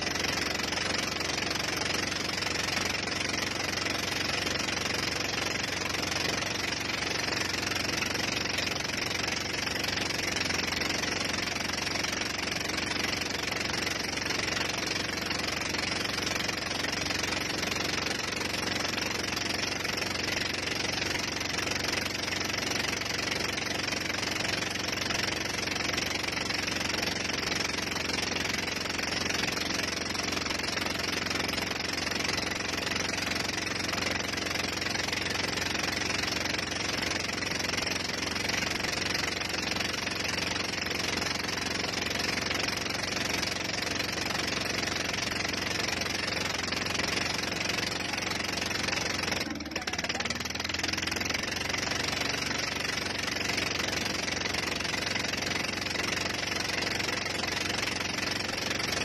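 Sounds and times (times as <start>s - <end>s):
motorboat engine running: 0.0s - 59.0s.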